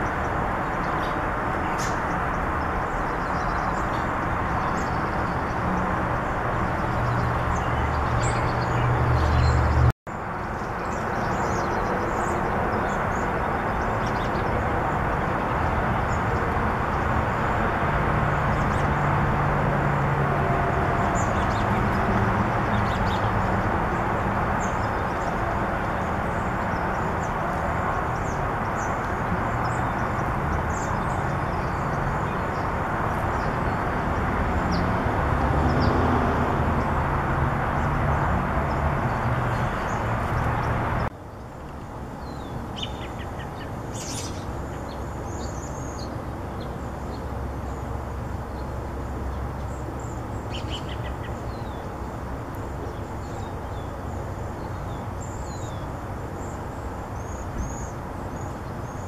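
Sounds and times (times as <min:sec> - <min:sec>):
steady outdoor rumble: 0:00.0 - 0:59.0.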